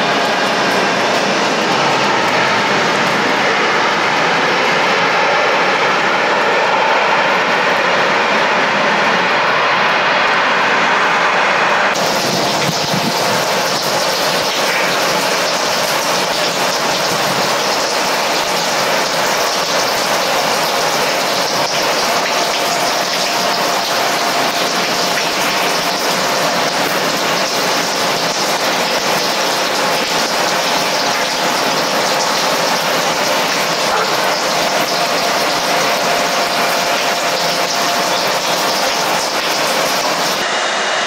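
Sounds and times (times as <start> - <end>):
jet engines running: 0.0 - 41.0.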